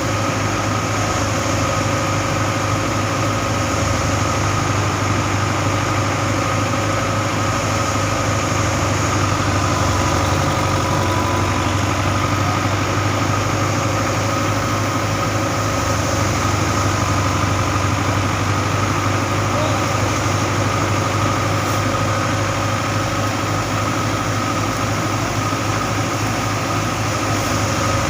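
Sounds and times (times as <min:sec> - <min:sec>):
farm machinery engine running: 0:00.0 - 0:28.0.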